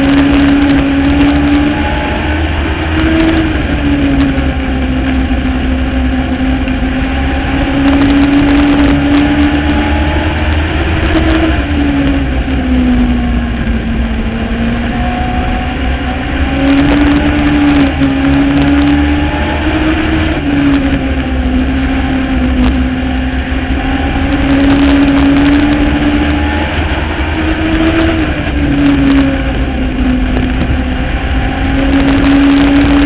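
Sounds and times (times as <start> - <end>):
motorcycle engine running hard: 0.0 - 33.0.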